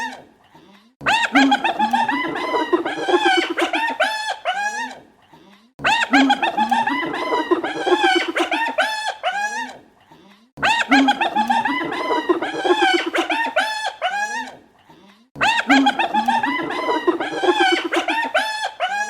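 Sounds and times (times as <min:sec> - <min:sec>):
hyena laughing: 0:01.0 - 0:05.0, 0:05.8 - 0:09.8, 0:10.6 - 0:14.6, 0:15.4 - 0:19.0.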